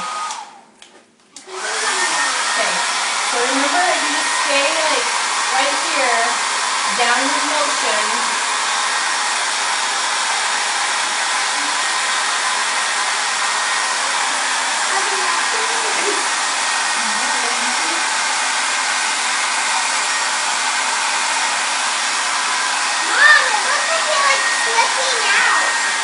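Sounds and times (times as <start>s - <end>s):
hair dryer blowing: 0.0s - 0.7s, 1.4s - 26.0s.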